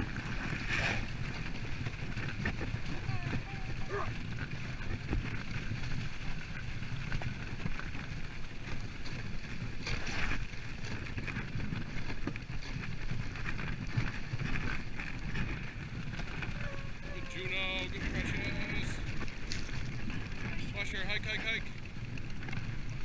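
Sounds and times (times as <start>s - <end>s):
sled clattering and rattling: 0.0s - 23.0s
sled runners scraping on snow: 0.0s - 23.0s.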